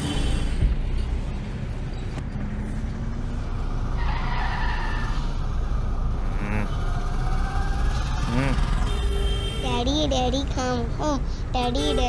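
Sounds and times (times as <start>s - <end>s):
car driving low rumble: 0.0s - 11.8s.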